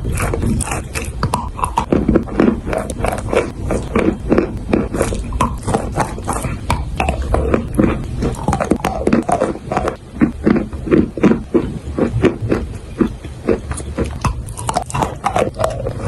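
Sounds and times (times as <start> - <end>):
chalk being chewed crunching: 0.0 - 16.0.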